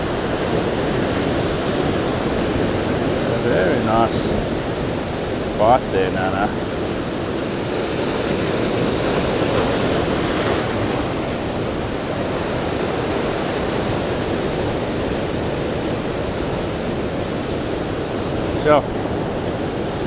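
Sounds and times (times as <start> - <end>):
ocean surf over rocks: 0.0 - 20.0.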